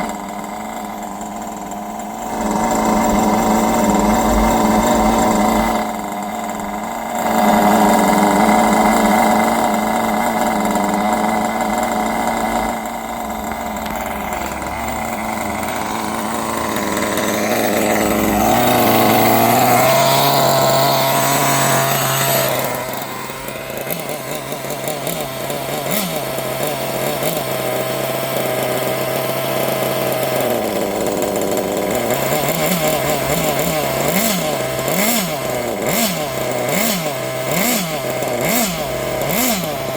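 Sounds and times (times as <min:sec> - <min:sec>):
small model engine revving: 0:00.0 - 0:39.9.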